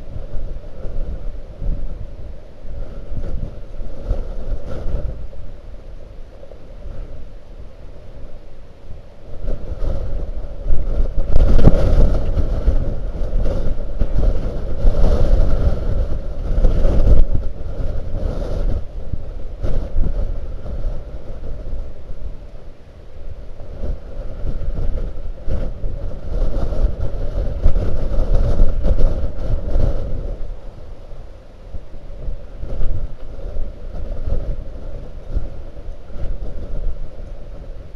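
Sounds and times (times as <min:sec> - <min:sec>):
wind buffeting microphone: 0:00.0 - 0:37.9.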